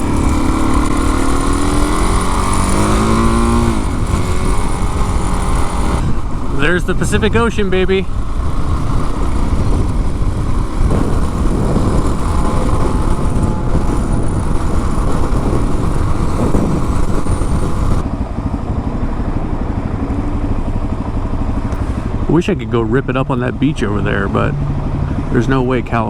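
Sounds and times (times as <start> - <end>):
motorcycle engine: 0.0 - 26.0
wind rushing on microphone: 0.0 - 26.0.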